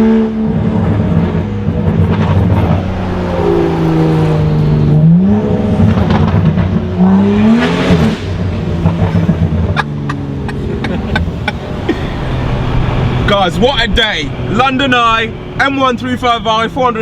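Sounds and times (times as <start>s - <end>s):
car exhaust with throttle blips: 0.0s - 17.0s.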